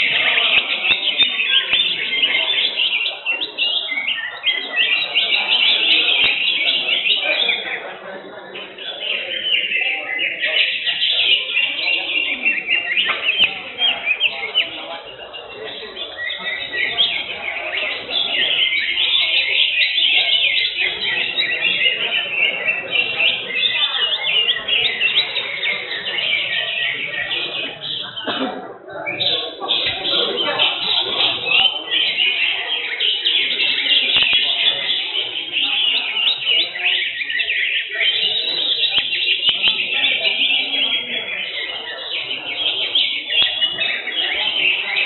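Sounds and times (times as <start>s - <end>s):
caged birds singing: 0.0s - 45.0s
murmur of voices: 0.0s - 45.0s.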